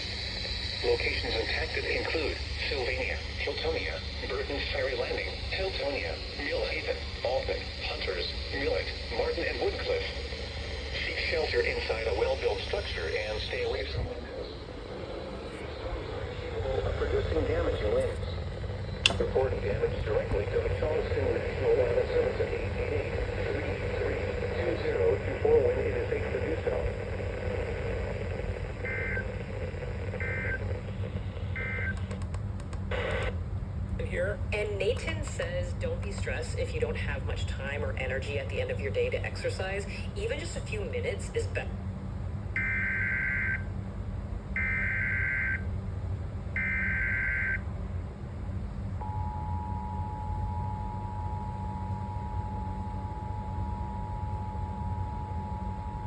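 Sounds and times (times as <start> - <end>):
radio hiss and hum: 0.0 - 42.2, 49.7 - 56.0.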